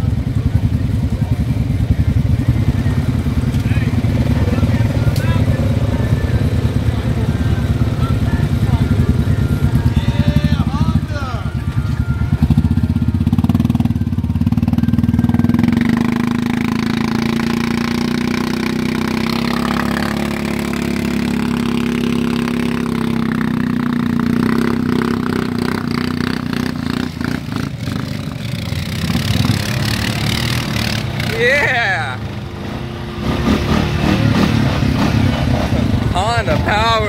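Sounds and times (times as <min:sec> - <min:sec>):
off-road vehicle engine under load: 0:00.0 - 0:37.0.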